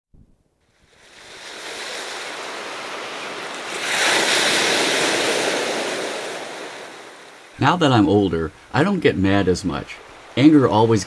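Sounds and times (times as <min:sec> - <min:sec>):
ocean surf washing onto beach: 0:00.7 - 0:11.0.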